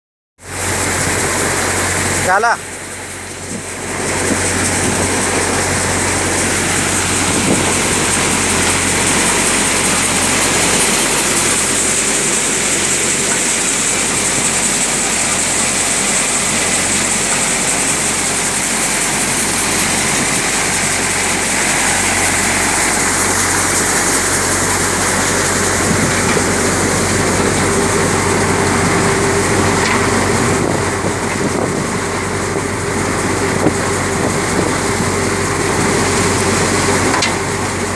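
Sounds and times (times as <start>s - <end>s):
thresher machine drone: 0.4s - 37.9s.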